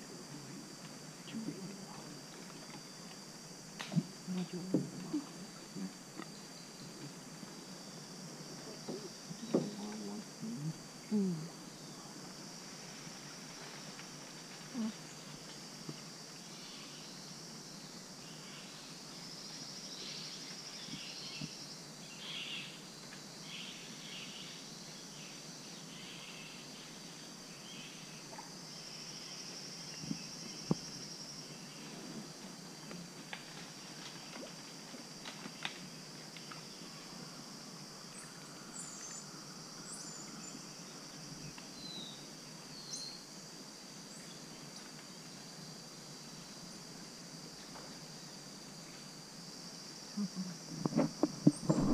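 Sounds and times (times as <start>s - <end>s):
insect drone and trills: 0.0s - 51.9s.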